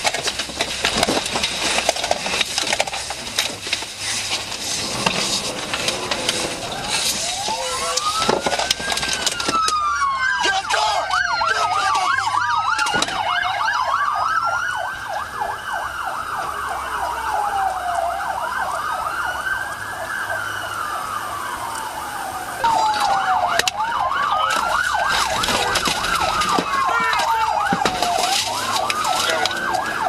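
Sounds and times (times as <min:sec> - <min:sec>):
siren wailing: 0:04.6 - 0:30.0
siren yelping: 0:04.8 - 0:30.0.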